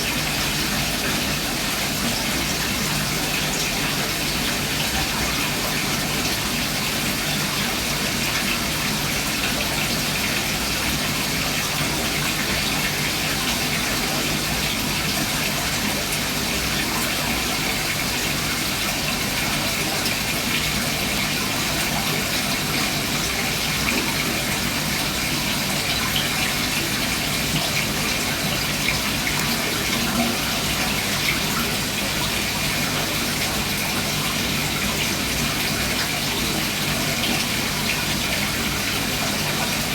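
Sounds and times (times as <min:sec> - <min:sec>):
aquarium water splashing: 0:00.0 - 0:39.9.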